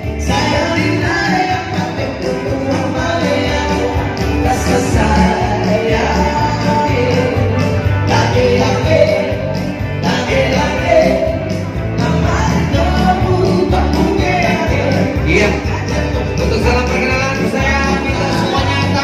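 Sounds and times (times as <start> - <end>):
band music with beat: 0.0 - 19.0
person singing: 0.0 - 19.0.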